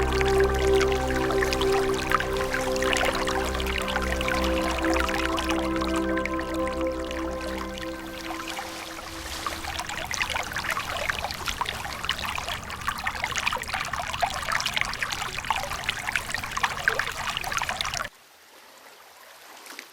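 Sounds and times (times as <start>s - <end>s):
small waterfall splashing: 0.0s - 19.9s.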